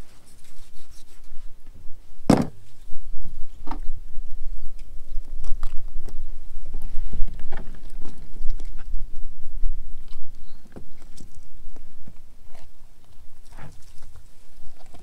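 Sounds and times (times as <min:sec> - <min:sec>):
wind buffeting microphone: 0:00.8 - 0:15.0.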